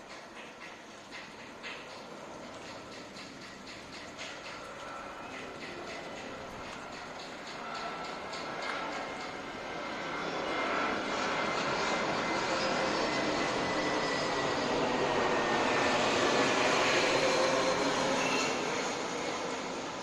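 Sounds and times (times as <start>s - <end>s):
jet engines rushing with whine: 0.0s - 20.0s.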